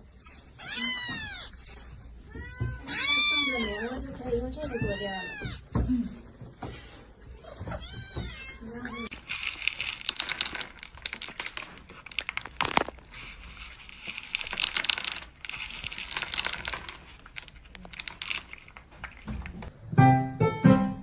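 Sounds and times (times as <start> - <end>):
crinkling and rustling: 0.0 - 19.7.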